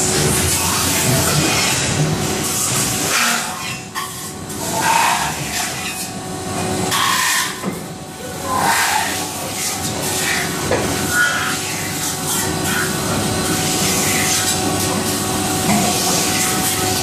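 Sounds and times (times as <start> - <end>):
machine noise: 0.0 - 17.0.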